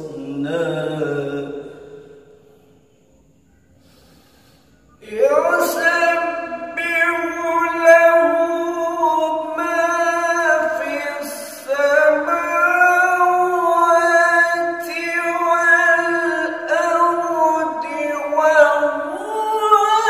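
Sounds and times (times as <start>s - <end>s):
man reciting melodically: 0.0s - 2.3s, 4.9s - 20.0s.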